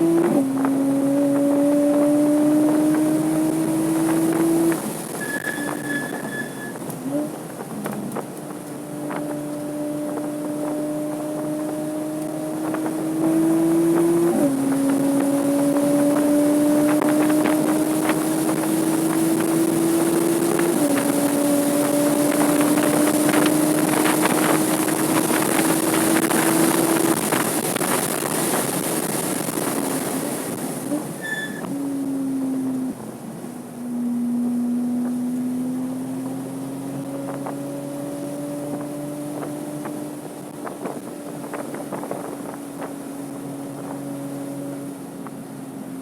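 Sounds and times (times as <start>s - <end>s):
car engine accelerating: 0.0s - 46.0s
wind and road noise: 0.0s - 46.0s.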